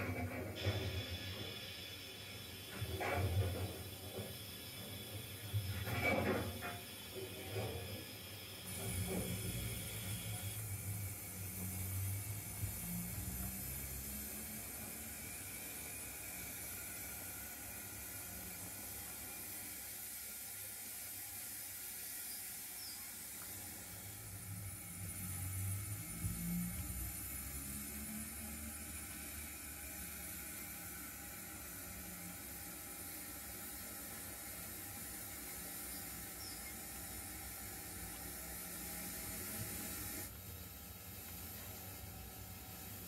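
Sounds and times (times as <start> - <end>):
model locomotive low hum: 0.0 - 43.0
steam hissing: 0.0 - 43.0.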